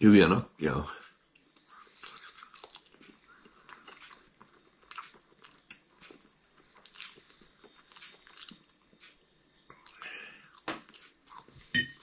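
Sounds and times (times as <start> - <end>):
person chewing sausage: 1.0 - 11.7.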